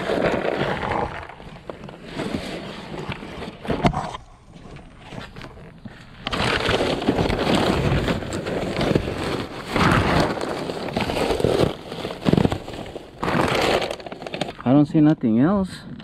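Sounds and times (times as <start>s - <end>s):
cardboard shifting: 0.0s - 14.7s
plastic wrap crinkling: 0.0s - 14.9s.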